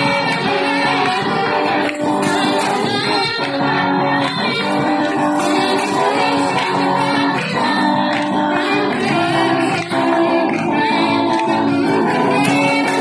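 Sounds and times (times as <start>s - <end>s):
guitar accompaniment: 0.0s - 13.0s
voices singing worship song: 0.0s - 13.0s.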